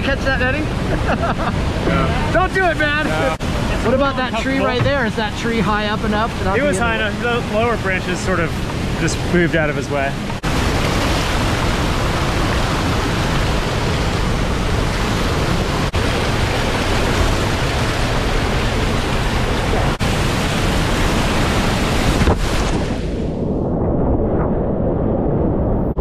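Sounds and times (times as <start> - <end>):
whitewater roaring: 0.0 - 23.3.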